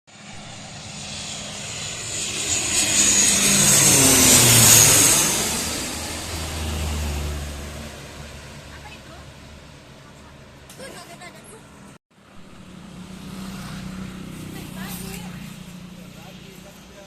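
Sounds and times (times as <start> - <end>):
turboprop aircraft passing: 0.1 - 17.0.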